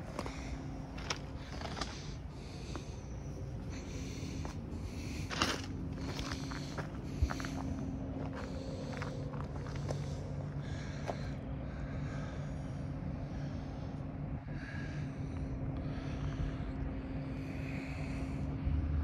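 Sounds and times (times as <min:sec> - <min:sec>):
engine idling: 0:00.0 - 0:19.0
soft breathy rushes: 0:00.0 - 0:19.0.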